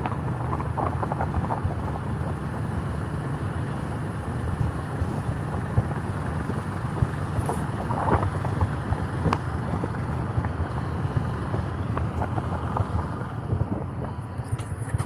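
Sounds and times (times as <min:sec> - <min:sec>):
low rumble of bike ride: 0:00.0 - 0:15.0
wind buffeting microphone: 0:00.0 - 0:15.0.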